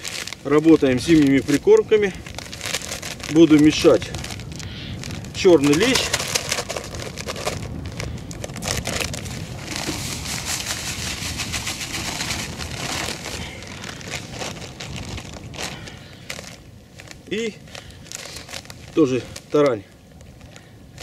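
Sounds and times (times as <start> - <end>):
packet crinkling and rustling: 0.0 - 21.0
wind rumble on microphone: 0.0 - 21.0.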